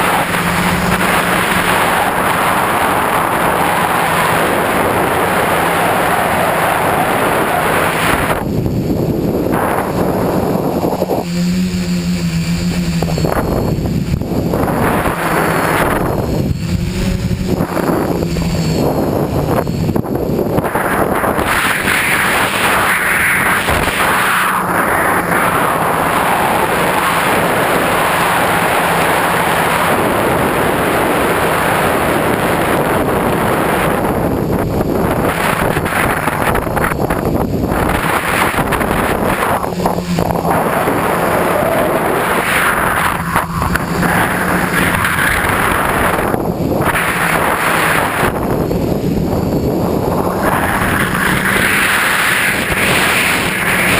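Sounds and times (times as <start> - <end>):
drone motors buzzing: 0.0 - 53.9
wind rushing on microphone: 0.0 - 53.9.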